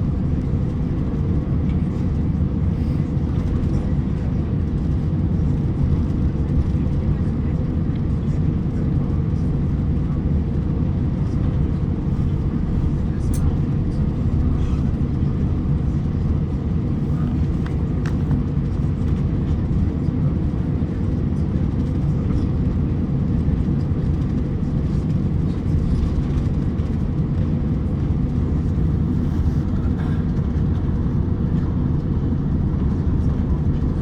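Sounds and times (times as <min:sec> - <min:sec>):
aircraft cabin rumble: 0:00.0 - 0:34.0.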